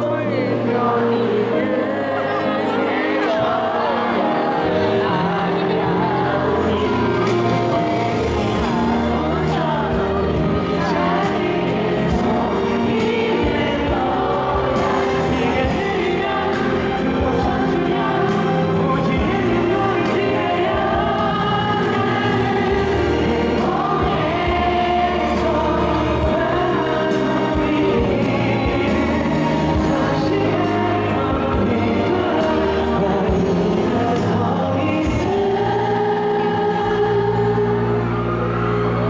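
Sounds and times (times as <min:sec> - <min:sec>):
crowd singing together: 0:00.0 - 0:39.0
pop ballad with band: 0:00.0 - 0:39.0.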